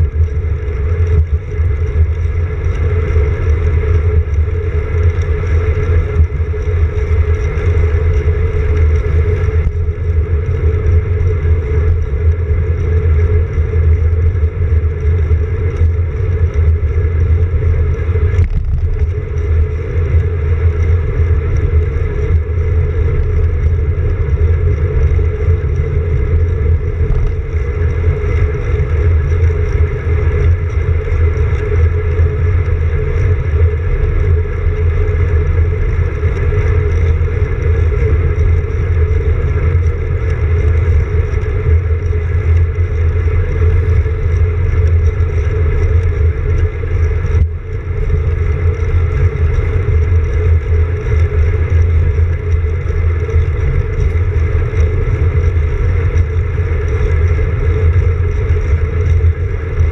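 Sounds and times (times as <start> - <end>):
bicycle road noise rumble: 0.0 - 59.9
wind rush: 0.0 - 59.9.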